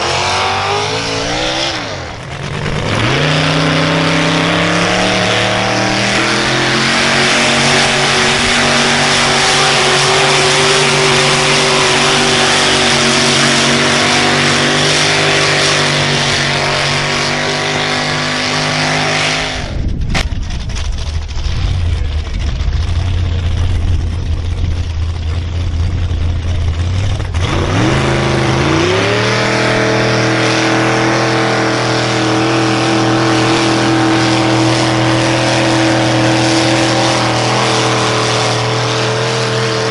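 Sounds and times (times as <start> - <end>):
vehicle engine revving under load: 0.0 - 20.2, 21.5 - 39.9.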